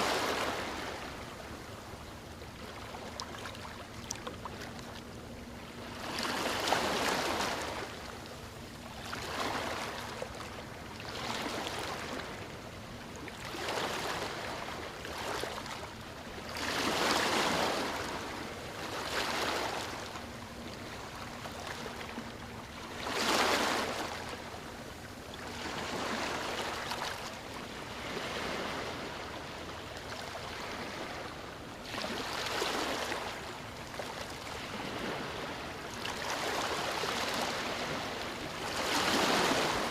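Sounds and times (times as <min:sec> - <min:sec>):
small waves breaking on beach: 0:00.0 - 0:05.0, 0:05.6 - 0:12.6, 0:13.2 - 0:39.9.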